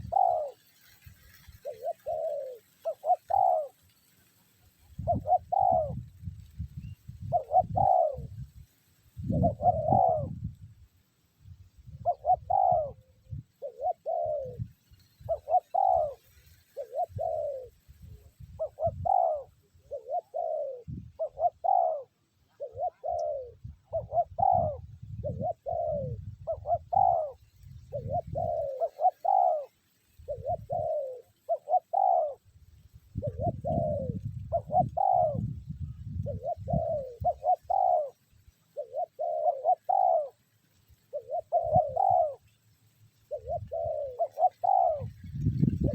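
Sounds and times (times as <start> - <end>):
dove cooing: 0.0 - 8.6, 9.2 - 10.8, 11.8 - 42.6, 43.3 - 45.9.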